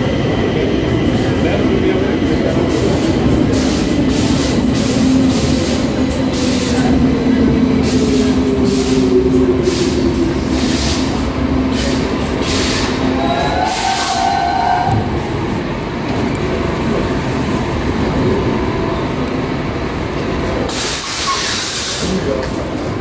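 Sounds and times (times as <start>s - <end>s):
rail and wheel rumble: 0.0s - 23.0s
train hum: 0.0s - 23.0s.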